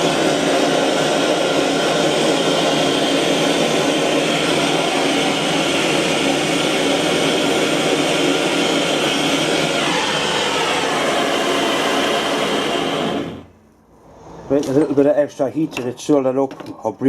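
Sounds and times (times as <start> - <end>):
gas torch burning: 0.0 - 13.8.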